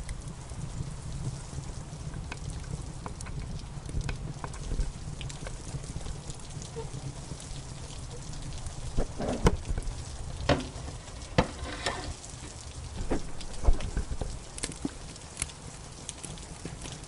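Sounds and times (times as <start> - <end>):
rain hissing: 0.0 - 17.0
wood fire crackling: 0.0 - 17.0.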